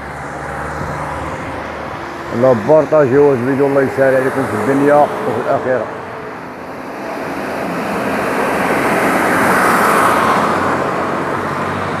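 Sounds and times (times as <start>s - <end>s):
heavy truck driving past: 0.0s - 12.0s.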